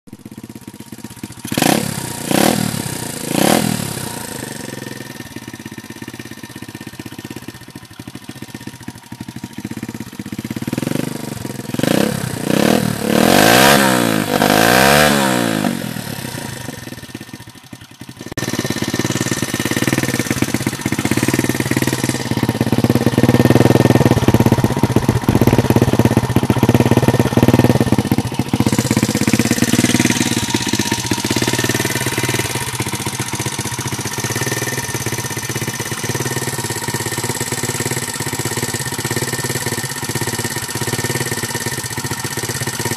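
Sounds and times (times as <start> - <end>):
pit bike engine revving and idling: 0.1 - 42.9.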